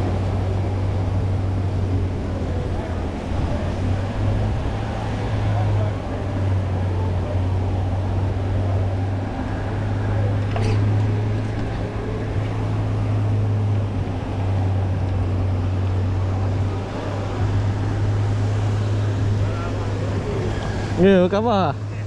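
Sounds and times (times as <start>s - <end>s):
churning water: 0.0s - 22.0s.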